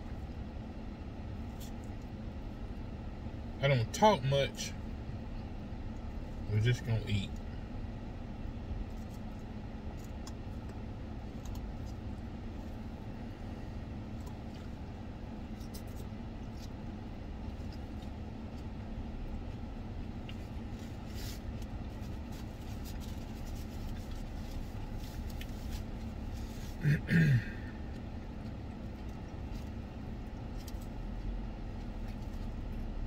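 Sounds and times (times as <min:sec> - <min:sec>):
low car cabin hum: 0:00.0 - 0:33.0.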